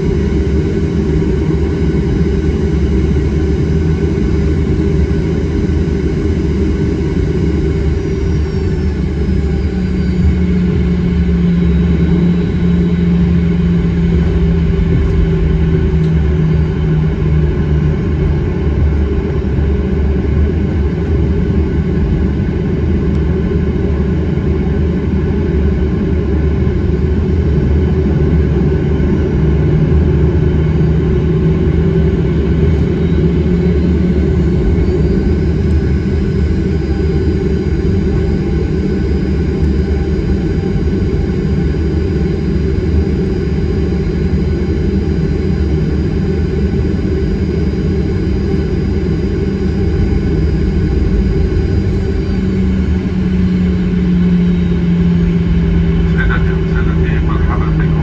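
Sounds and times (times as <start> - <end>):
humming tone: 0.0 - 21.3, 30.0 - 58.0
jet engine rumble in cabin: 0.0 - 58.0.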